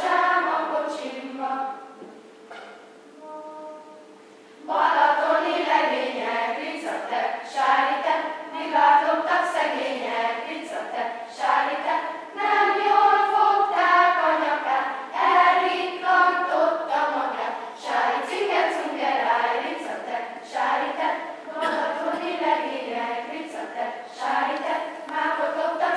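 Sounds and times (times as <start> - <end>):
children's choir singing: 0.0 - 25.9.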